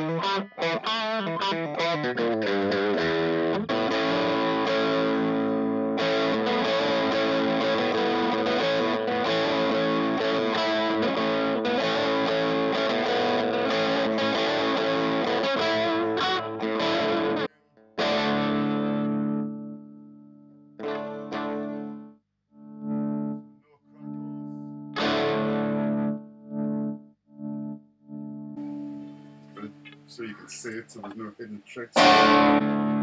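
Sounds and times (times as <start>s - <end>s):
distorted electric guitar chords: 0.0s - 30.1s, 32.0s - 33.0s.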